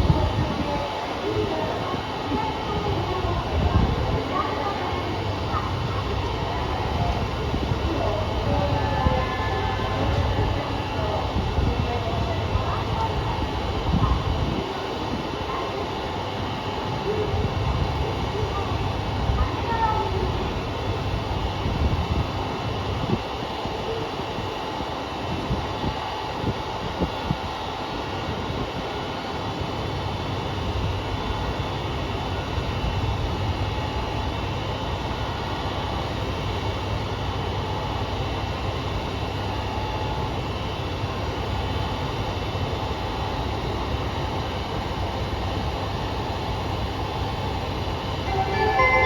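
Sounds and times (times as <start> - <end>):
diesel railcar engine rumble: 0.0 - 49.0.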